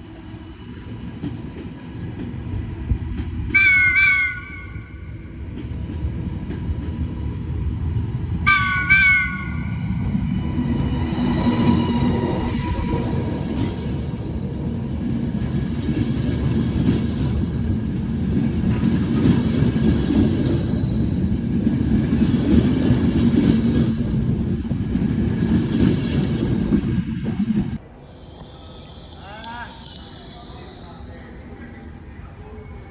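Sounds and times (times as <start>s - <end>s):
train wheels rumbling on rails: 0.0s - 27.8s.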